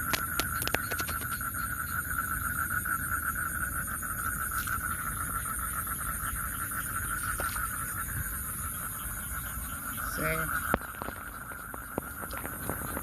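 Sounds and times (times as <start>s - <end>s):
high-pitched insect ticking: 0.0s - 13.0s
insects pulsing trill: 0.0s - 13.0s.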